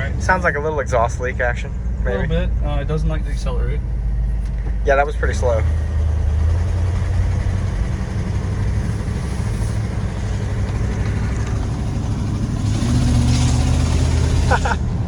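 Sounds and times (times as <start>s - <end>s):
truck engine drone from cab: 0.0s - 15.0s.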